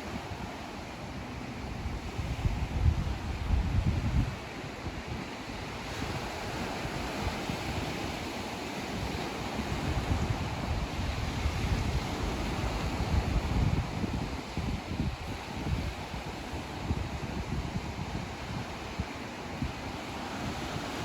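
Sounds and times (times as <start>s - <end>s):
ocean waves breaking: 0.0s - 21.0s
wind gusting on microphone: 0.0s - 21.0s.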